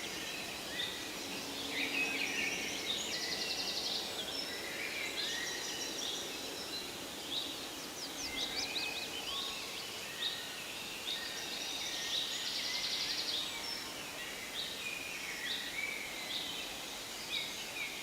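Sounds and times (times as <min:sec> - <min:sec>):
faint steady hiss: 0:00.0 - 0:18.0
songbirds singing and calling: 0:00.0 - 0:18.0.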